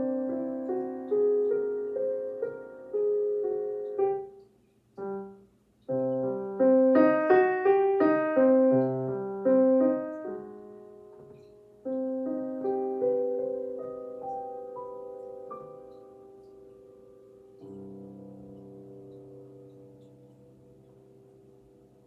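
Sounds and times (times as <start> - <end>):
solo piano slow piece: 0.0 - 22.0.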